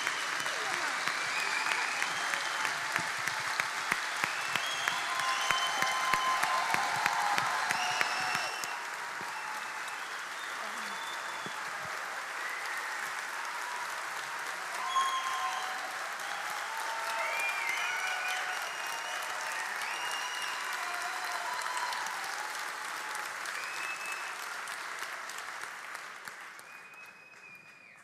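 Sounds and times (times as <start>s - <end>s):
large audience applauding: 0.0s - 28.0s.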